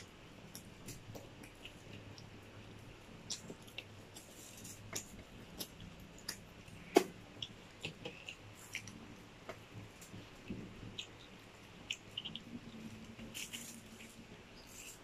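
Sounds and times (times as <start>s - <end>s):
french fries being chewed: 0.0s - 15.0s.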